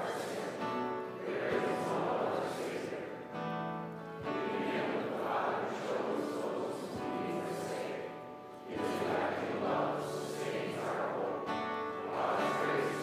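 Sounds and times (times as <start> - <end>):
congregation reading in unison: 0.0 - 13.0.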